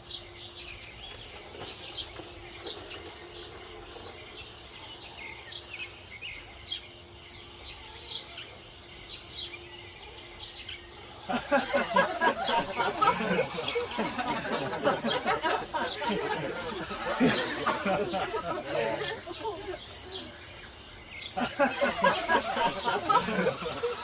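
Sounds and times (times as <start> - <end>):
faint steady hum: 0.0 - 24.0
small birds chirping: 0.0 - 24.0.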